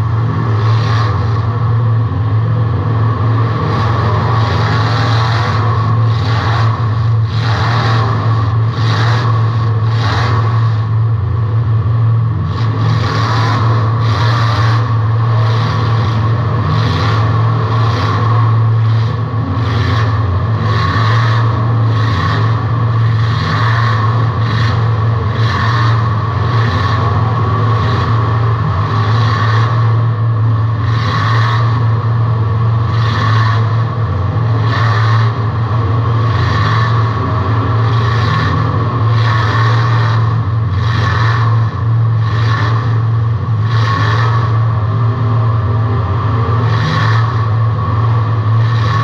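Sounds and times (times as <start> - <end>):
race car engine running hard: 0.0 - 49.0.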